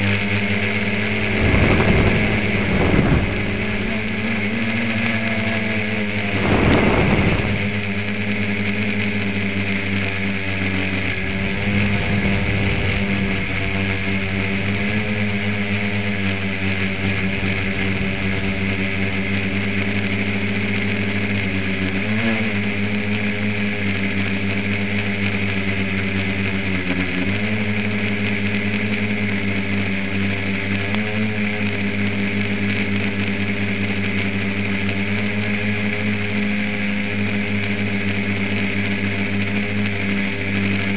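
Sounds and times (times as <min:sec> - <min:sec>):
drone motors and propellers humming: 0:00.0 - 0:40.9
thin high motor whine: 0:00.0 - 0:40.9.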